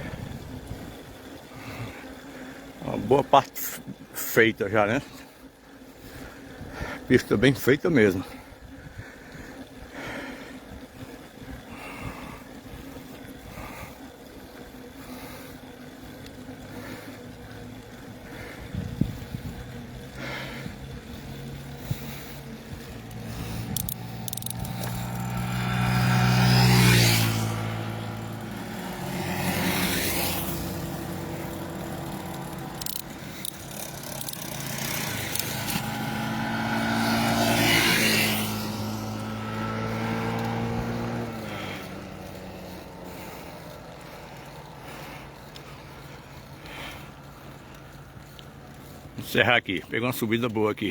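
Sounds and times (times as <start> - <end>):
tyre and road noise: 0.0 - 50.9
vehicle engine running: 0.0 - 50.9.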